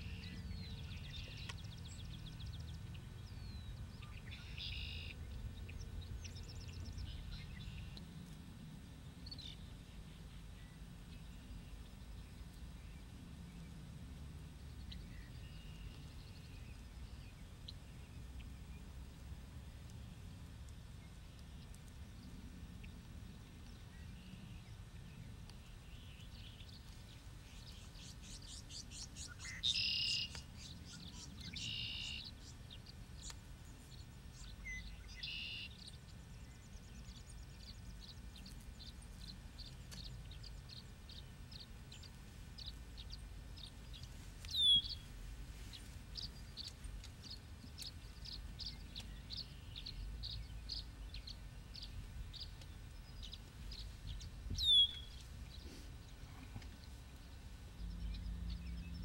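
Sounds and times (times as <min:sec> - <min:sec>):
low steady background rumble: 0:00.0 - 0:59.0
small songbirds chirping and trilling: 0:00.0 - 0:59.0.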